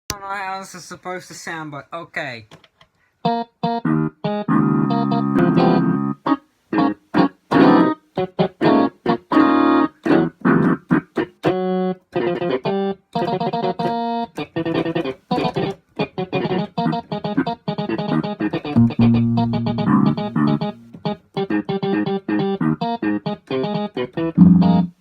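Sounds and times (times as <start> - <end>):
electronic keyboard jumbled notes: 3.3 - 25.0.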